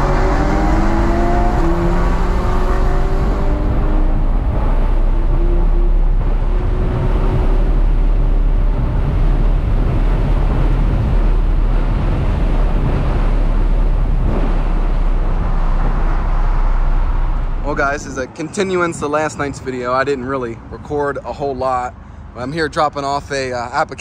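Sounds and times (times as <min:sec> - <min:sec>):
car driving at highway speed: 0:00.0 - 0:24.0.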